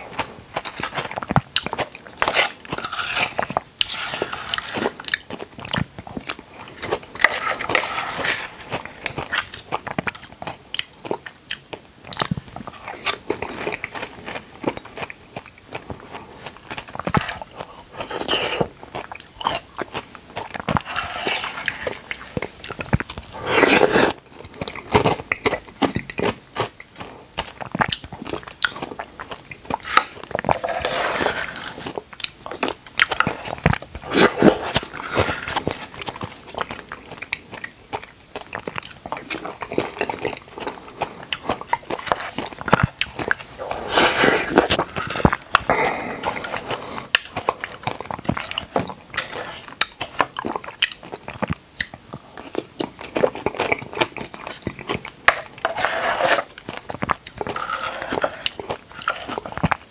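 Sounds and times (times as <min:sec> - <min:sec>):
biting and chewing: 0:00.0 - 0:59.9.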